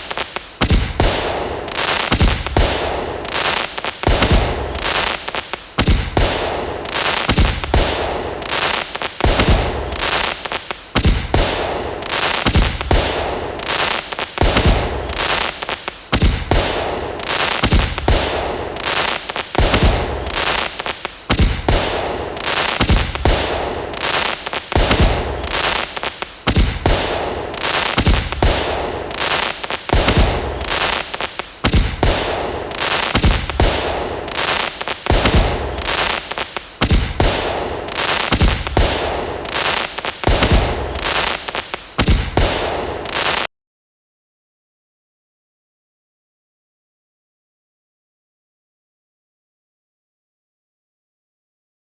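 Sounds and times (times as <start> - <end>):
firework bangs with hiss: 0.0 - 43.5.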